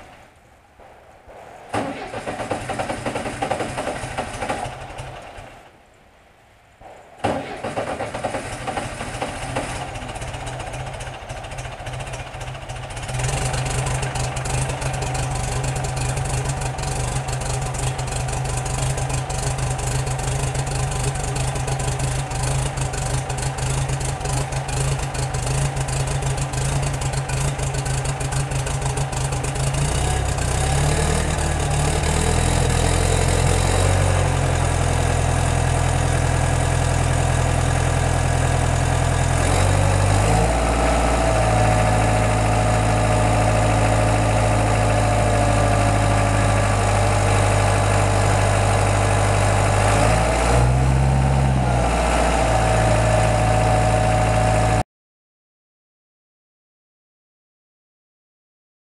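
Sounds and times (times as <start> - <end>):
diesel engine running roughly: 1.7 - 5.6, 7.2 - 54.8.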